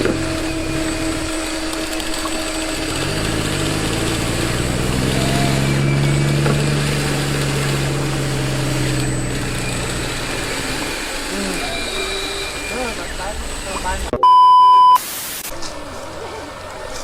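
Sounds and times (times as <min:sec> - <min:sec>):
small motor humming: 0:00.0 - 0:14.1.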